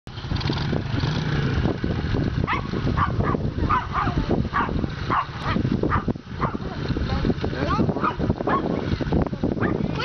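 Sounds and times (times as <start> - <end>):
dirt bike engine running: 0.1 - 10.0.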